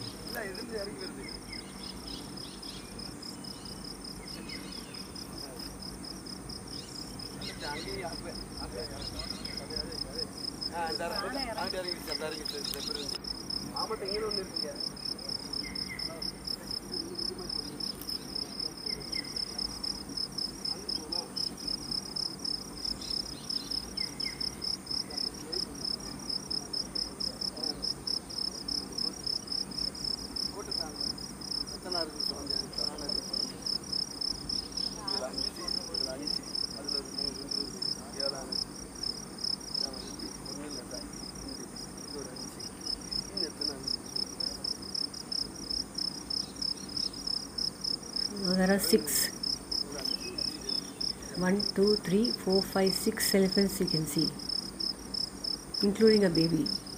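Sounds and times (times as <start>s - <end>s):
high insect hiss: 0.0s - 56.9s
insects chirping: 0.0s - 56.9s.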